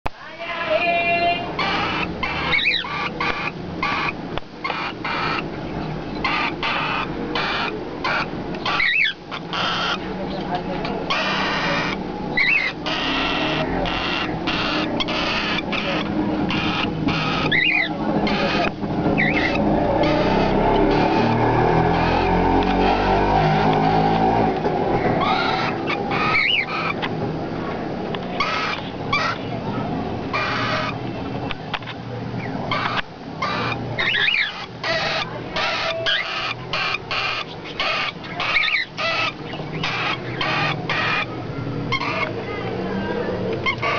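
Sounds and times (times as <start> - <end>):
chicks rasping begging calls: 0.4 - 43.9.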